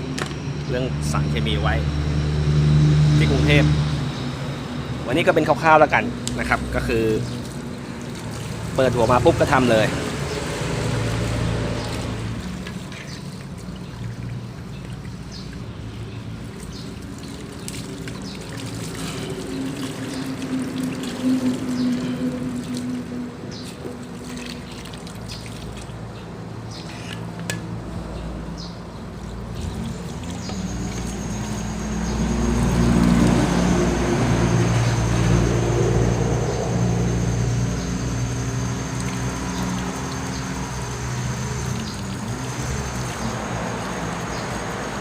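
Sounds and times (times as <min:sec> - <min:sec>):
liquid pouring and dribbling: 0:05.2 - 0:27.6, 0:29.1 - 0:45.0.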